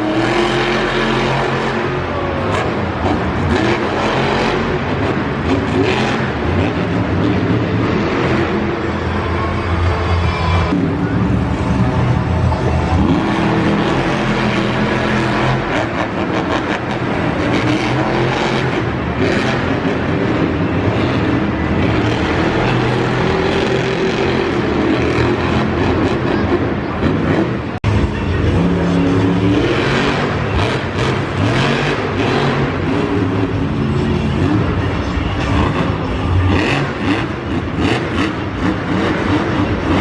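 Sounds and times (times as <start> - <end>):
monster truck engines revving: 0.0 - 40.0.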